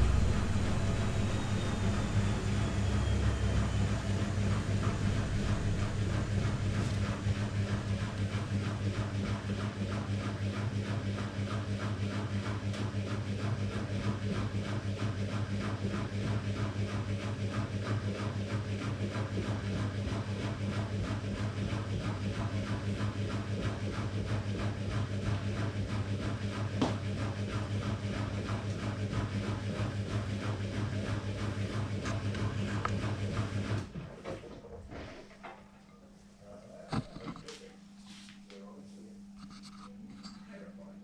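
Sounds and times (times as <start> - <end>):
washing machine hum pulsing: 0.0 - 41.0.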